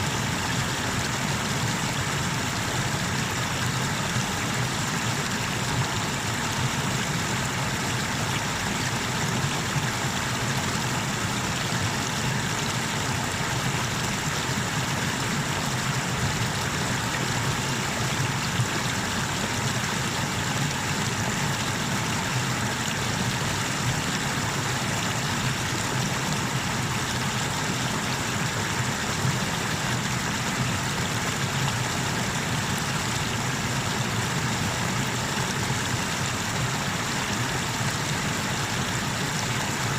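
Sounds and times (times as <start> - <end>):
water rushing over cascades: 0.0 - 39.9.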